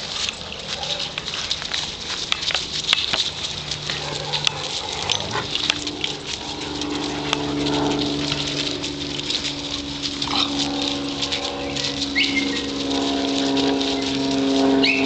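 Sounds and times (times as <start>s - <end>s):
dogs growling: 0.0s - 15.0s.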